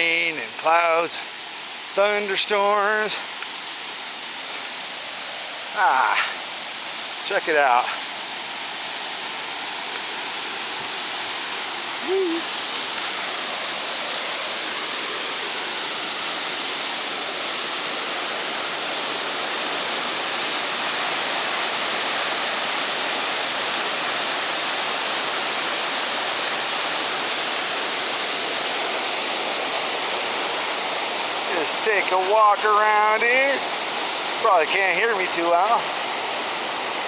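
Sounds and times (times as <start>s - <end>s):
water rushing over spillway: 0.0s - 37.0s.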